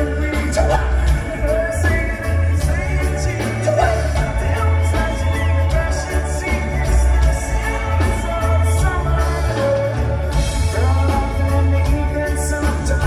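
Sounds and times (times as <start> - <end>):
heavy bass line: 0.0 - 13.0
live band playing: 0.0 - 13.0
person singing: 0.0 - 13.0.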